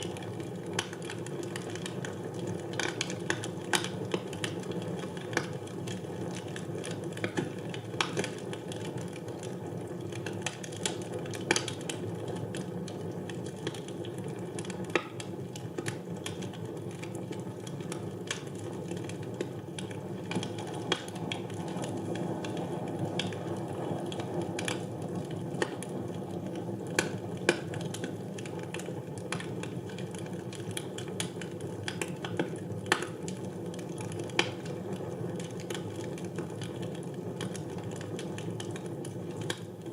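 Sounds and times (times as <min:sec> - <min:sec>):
fire crackles and pops: 0:00.0 - 0:39.9.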